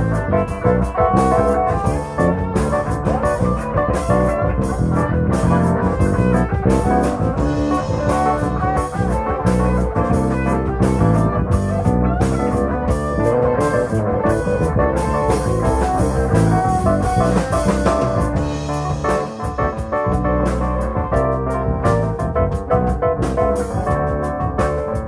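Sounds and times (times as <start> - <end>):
drum kit beat: 0.0 - 25.0
electric guitar: 0.0 - 25.0
keyboard: 0.0 - 25.0.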